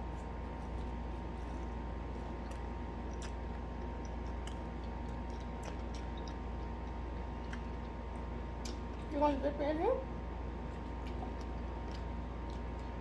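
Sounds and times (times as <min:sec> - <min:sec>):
chewing: 0:00.0 - 0:09.1, 0:10.6 - 0:13.0
steady low hum: 0:00.0 - 0:13.0.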